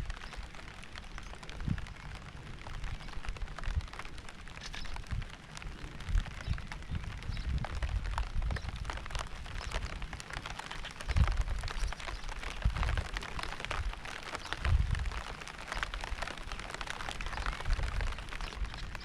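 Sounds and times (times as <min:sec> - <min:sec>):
steady rain pattering: 0:00.0 - 0:19.0.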